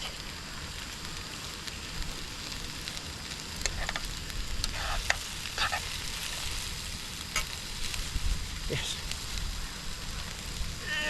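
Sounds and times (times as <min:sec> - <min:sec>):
burgers sizzling in a pan: 0:00.0 - 0:11.0.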